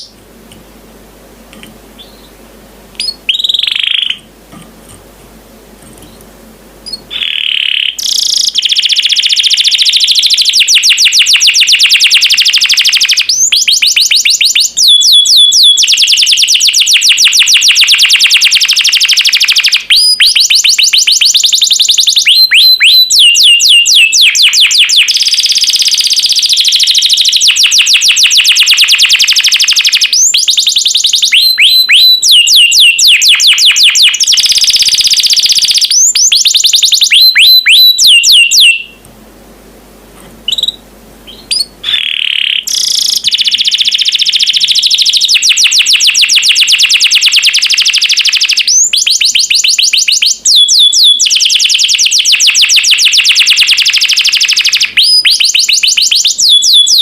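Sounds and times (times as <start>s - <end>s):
canary singing trills: 2.0s - 2.4s, 3.0s - 4.3s, 6.0s - 39.0s, 40.4s - 57.0s.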